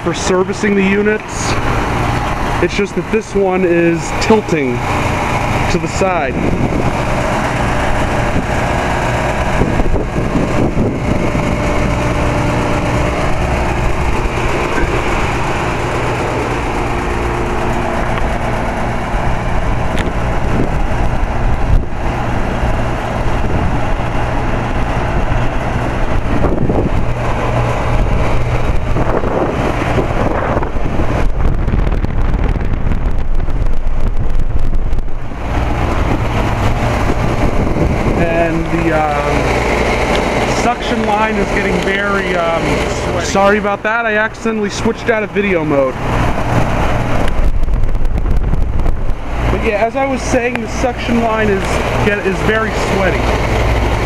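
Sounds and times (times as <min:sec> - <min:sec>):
compressor hum: 0:00.0 - 0:54.0
condenser fan whoosh: 0:00.0 - 0:54.0.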